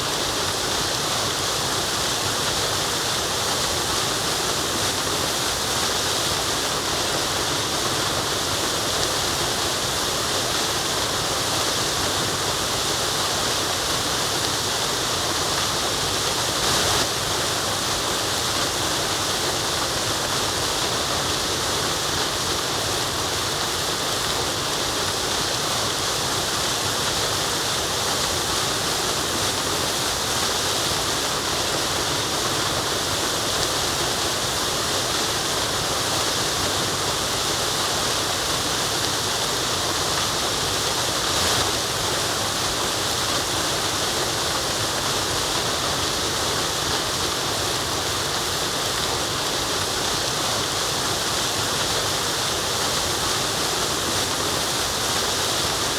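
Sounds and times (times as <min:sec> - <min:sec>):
waterfall and stream rushing: 0:00.0 - 0:55.9.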